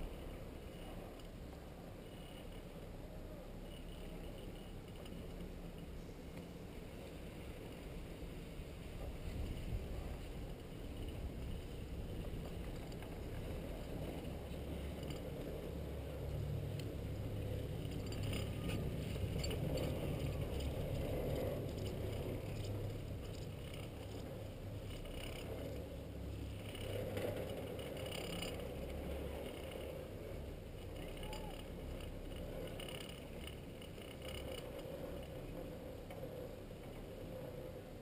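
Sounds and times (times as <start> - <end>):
wind and running chairlift rumble: 0.0 - 38.0
light clicking and rattling: 3.7 - 7.9, 8.9 - 37.8.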